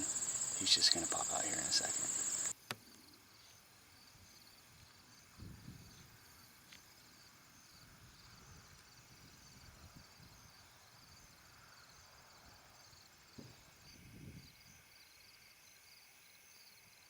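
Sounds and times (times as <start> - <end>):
rural field ambience: 0.0 - 14.9
faint insects chirping: 0.0 - 17.0.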